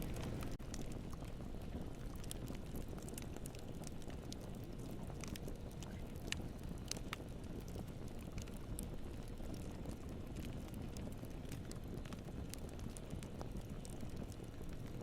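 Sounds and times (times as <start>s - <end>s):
campfire rumble: 0.0s - 15.0s
wood crackling and popping: 0.0s - 15.0s.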